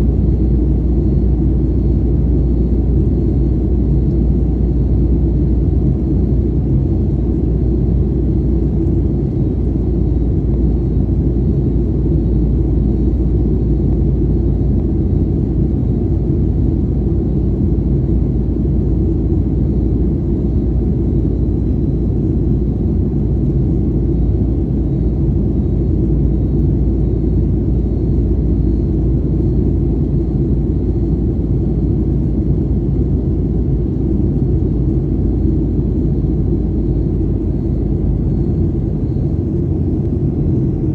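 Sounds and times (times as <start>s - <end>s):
airplane cabin engine rumble: 0.0s - 40.9s
faint high whine: 0.0s - 40.9s.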